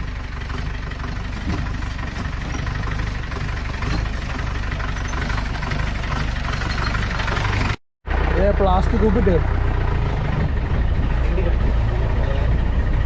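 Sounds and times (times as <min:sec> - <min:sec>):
jeep engine low rumble: 0:00.0 - 0:13.0
vehicle on rough track: 0:00.0 - 0:13.0.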